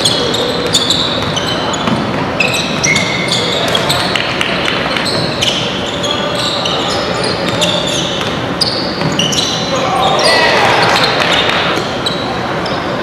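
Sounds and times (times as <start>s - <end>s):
gym hall background noise: 0.0s - 13.0s
sneaker squeaks: 0.0s - 13.0s.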